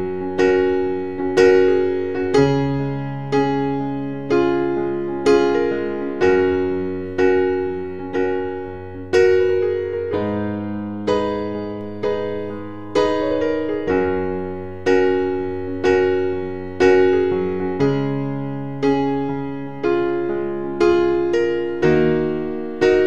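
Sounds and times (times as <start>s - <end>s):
slow electric piano chords: 0.0s - 23.0s.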